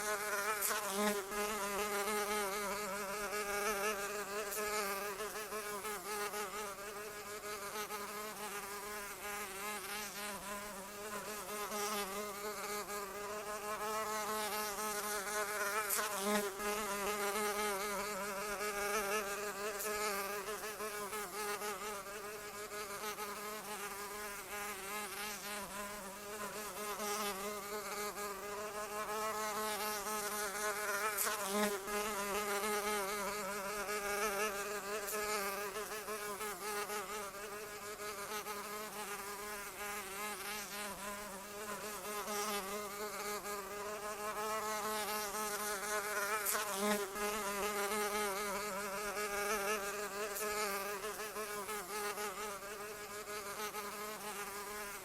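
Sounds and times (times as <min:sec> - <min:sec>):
flying insect buzzing: 0:00.0 - 0:55.0.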